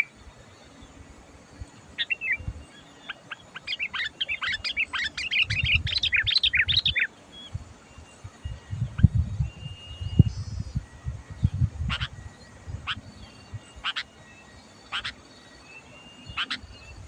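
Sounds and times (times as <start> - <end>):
bulbul singing chattering whistles: 0.0 - 1.0, 1.6 - 17.0.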